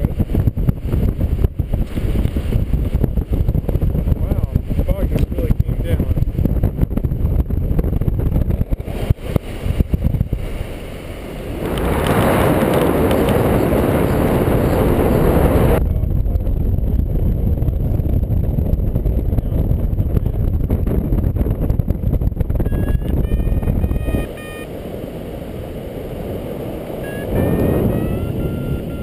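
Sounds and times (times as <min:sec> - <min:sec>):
hissy rush of wind: 0:00.0 - 0:22.6, 0:24.6 - 0:29.0
wind buffeting microphone: 0:00.0 - 0:29.0.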